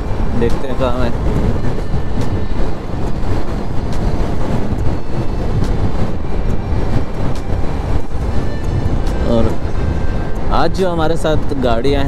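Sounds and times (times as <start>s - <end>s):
scooter engine and road noise: 0.0s - 12.0s
wind buffeting microphone: 0.0s - 12.0s.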